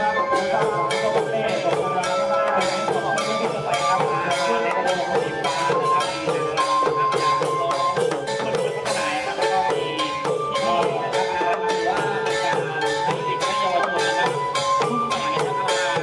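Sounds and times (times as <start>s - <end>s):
hand drums beating: 0.0s - 16.0s.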